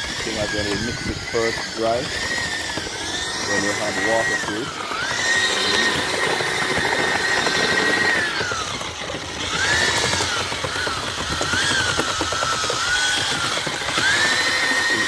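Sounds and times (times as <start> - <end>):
electric drill motor whine: 0.0 - 15.0
paddle churning concrete slurry: 0.0 - 15.0.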